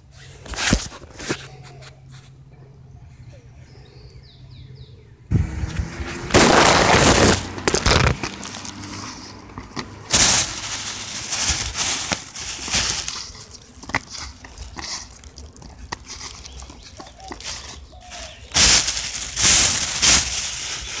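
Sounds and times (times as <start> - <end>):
crackling rustle against microphone: 0.0 - 2.4, 5.6 - 21.0.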